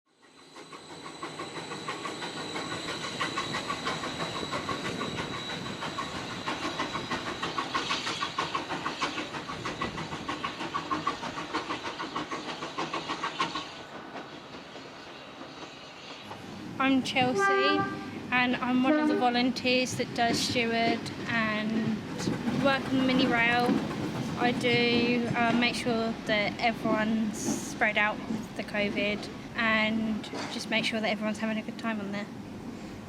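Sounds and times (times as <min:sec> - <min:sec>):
train running on rails: 0:00.1 - 0:33.0.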